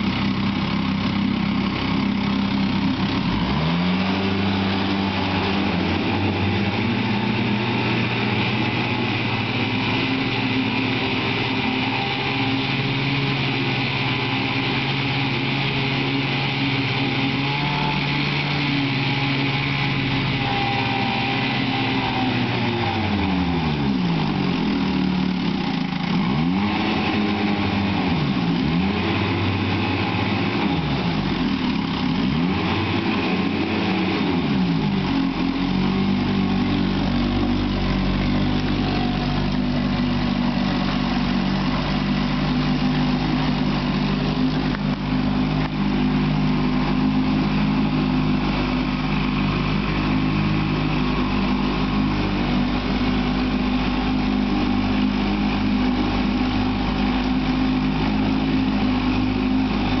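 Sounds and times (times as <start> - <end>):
outboard motor running: 0.0 - 60.0.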